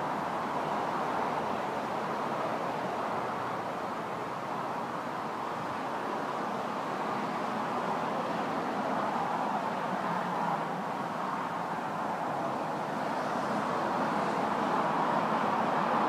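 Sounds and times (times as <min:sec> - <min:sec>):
highway traffic: 0:00.0 - 0:16.0.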